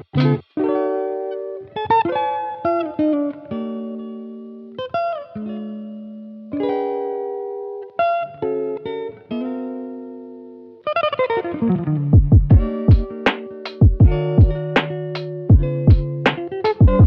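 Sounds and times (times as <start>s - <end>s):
plucked guitar: 0.0s - 17.0s.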